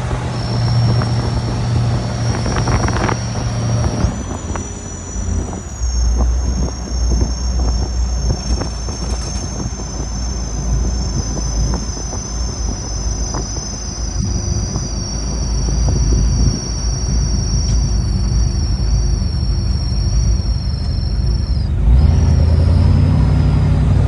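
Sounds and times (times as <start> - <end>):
car engine rumbling: 0.0 - 24.0
high-pitched whine: 0.0 - 24.0.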